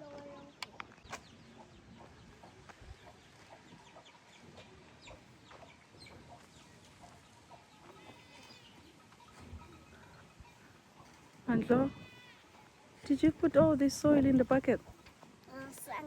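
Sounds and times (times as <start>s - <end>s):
faint chickens clucking: 0.0s - 16.0s.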